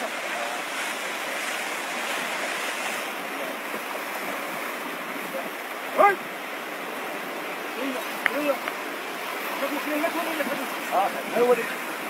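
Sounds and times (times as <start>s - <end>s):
sea surf washing against rocks: 0.0s - 12.0s.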